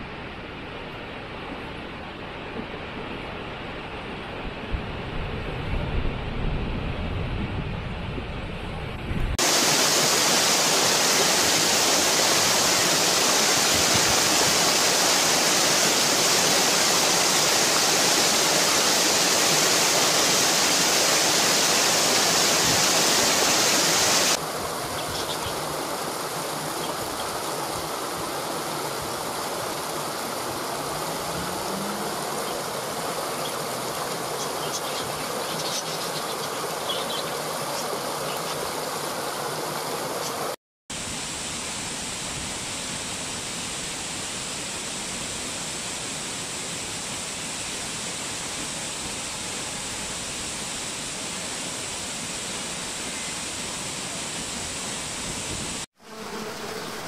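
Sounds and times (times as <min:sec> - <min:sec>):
water rushing down a stream: 0:09.4 - 0:55.9
small waterfall: 0:09.4 - 0:57.0.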